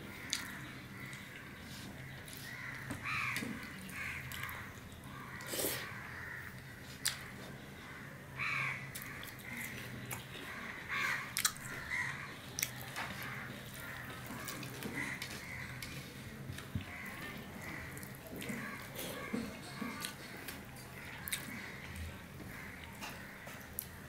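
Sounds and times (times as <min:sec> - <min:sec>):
crows cawing: 0:00.1 - 0:12.4, 0:13.0 - 0:16.2, 0:16.8 - 0:20.4, 0:21.0 - 0:24.0.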